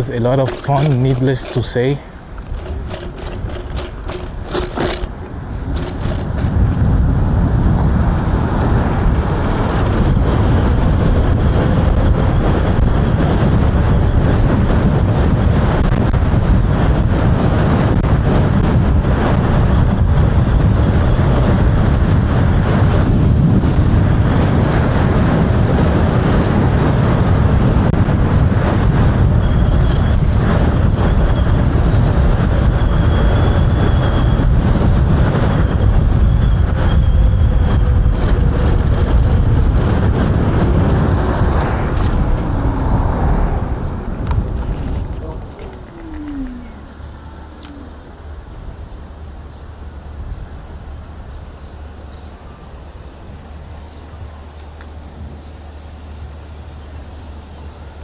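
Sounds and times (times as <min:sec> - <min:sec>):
scooter tyre noise: 0:00.0 - 0:57.4
wind rushing over microphone: 0:00.0 - 0:58.0.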